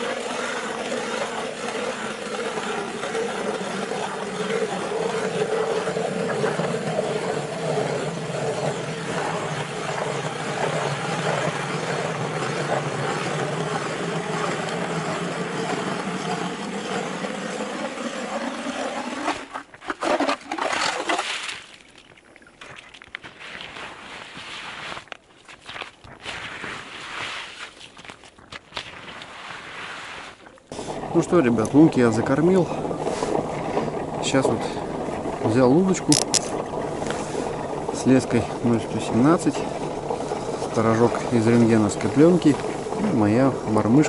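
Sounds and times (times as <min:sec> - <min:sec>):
ice auger grinding through ice: 0:00.0 - 0:21.7, 0:22.6 - 0:44.0
slushy water splashes: 0:00.0 - 0:44.0.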